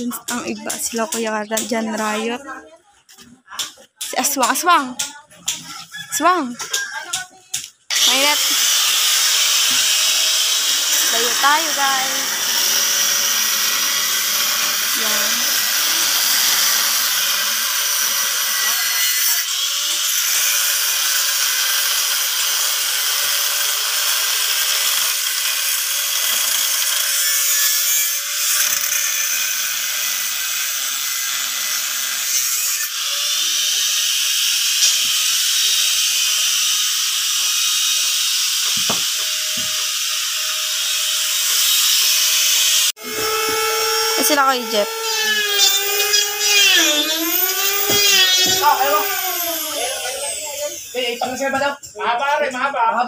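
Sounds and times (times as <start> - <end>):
power tool whining: 7.9 - 51.6.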